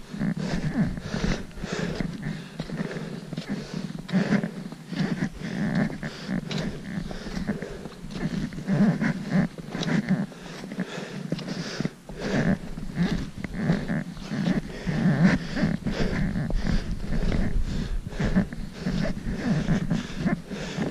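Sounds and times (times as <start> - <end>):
footsteps crunching in snow: 0.0 - 20.9
heavy breathing: 0.0 - 20.9.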